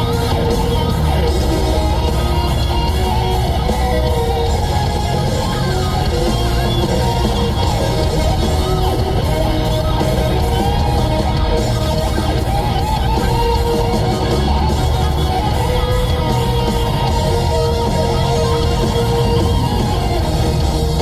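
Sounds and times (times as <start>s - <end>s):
electric guitar: 0.0s - 21.0s
heavy metal music: 0.0s - 21.0s.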